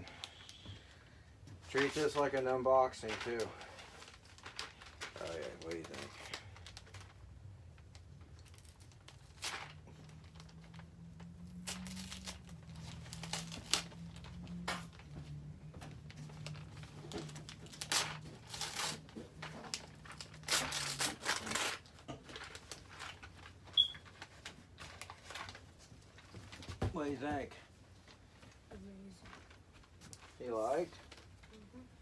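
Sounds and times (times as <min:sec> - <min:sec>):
wrapping paper crinkling and tearing: 0:01.7 - 0:15.0, 0:16.0 - 0:26.7, 0:29.3 - 0:31.7.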